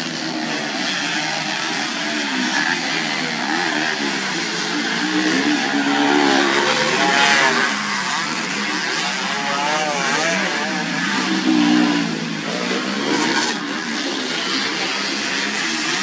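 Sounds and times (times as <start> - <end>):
motorcycles revving hard: 0.0 - 16.0.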